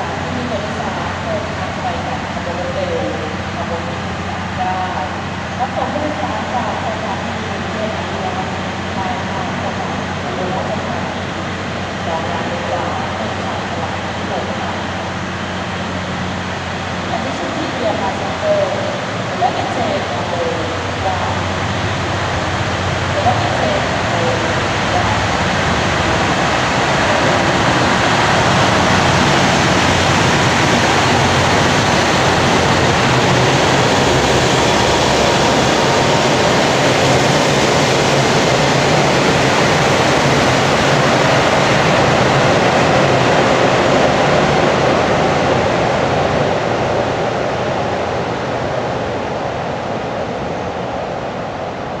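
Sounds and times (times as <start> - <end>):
diesel train running by: 0.0 - 52.0.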